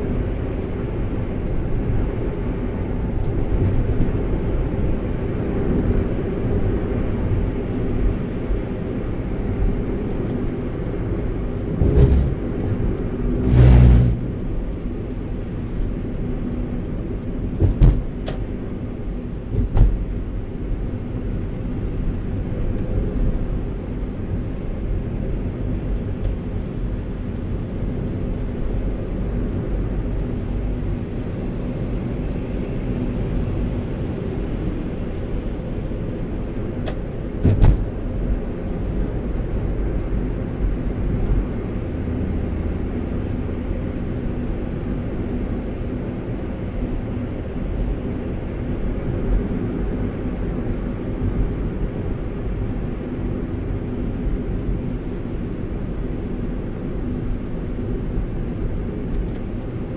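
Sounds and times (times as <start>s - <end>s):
car cabin road and engine rumble: 0.0s - 59.9s.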